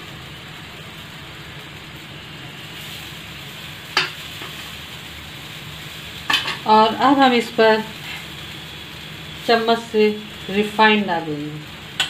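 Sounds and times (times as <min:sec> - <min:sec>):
batter sizzling on hot griddle: 0:00.0 - 0:12.0.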